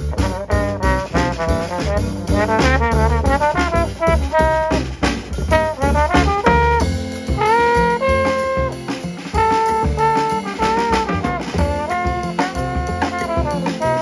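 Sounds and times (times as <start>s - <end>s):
jazz trombone melody: 0.0s - 14.0s
plucked upright bass: 0.0s - 14.0s.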